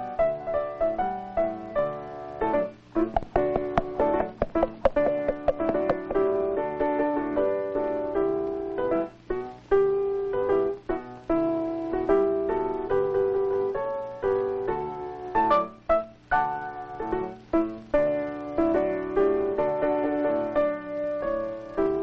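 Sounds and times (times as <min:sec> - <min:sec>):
piano music: 0:00.0 - 0:09.2, 0:09.8 - 0:22.0.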